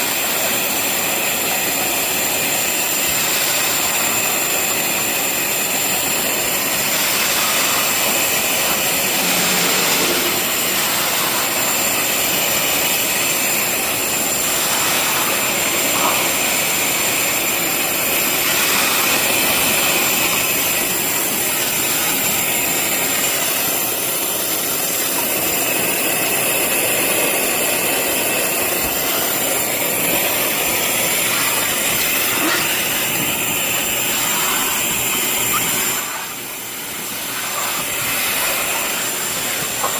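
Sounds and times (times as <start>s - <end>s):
wet vacuum whining: 0.0s - 39.9s
water sucked through floor nozzle: 3.0s - 39.9s.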